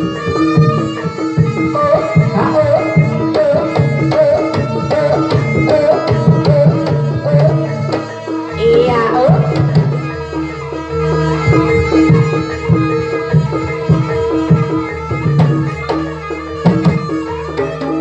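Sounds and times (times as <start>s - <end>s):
rhythmic drum strokes: 0.0s - 18.0s.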